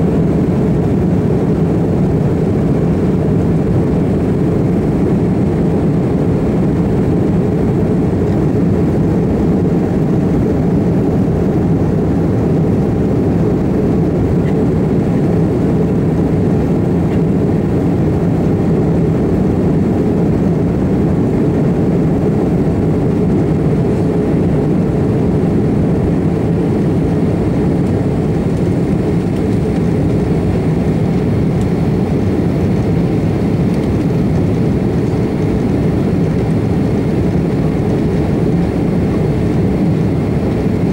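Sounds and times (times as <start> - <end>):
jet engines roaring at take-off: 0.0 - 40.9.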